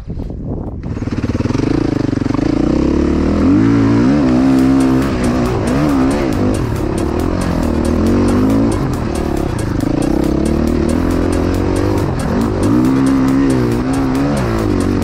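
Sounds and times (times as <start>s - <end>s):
motorcycle engine revving under load: 0.8s - 15.0s.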